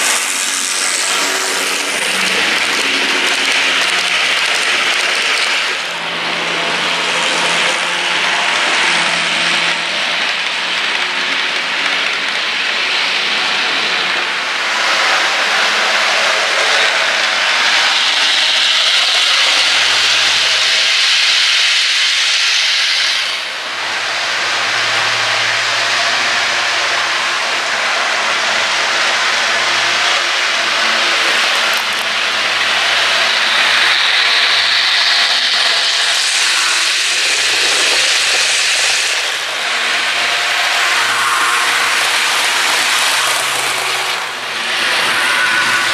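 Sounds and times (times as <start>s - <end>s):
model trains whirring on rails: 0.0s - 45.9s.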